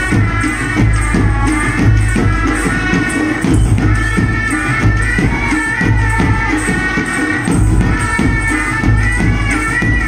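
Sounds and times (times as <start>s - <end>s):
drums beating: 0.0s - 10.0s.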